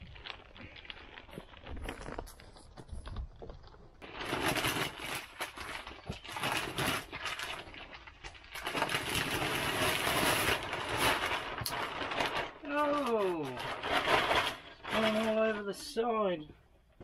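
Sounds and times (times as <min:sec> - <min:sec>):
plastic bag rustling and crinkling: 0:00.0 - 0:17.0.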